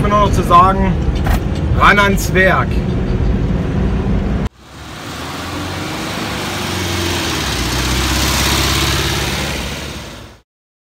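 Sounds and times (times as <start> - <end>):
bus driving along street: 0.0 - 10.4
road noise: 0.0 - 10.4.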